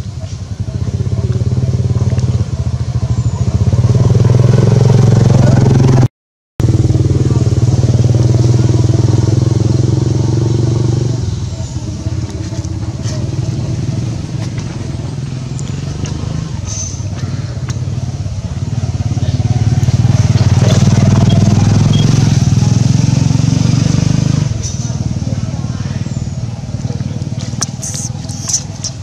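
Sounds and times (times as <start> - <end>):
engine running steadily: 0.0 - 6.0, 6.6 - 29.0.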